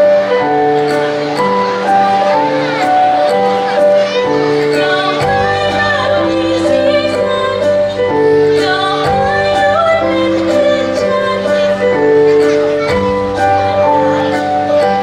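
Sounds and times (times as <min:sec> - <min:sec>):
sustained instrumental backing: 0:00.0 - 0:15.0
person singing a melody: 0:02.6 - 0:15.0.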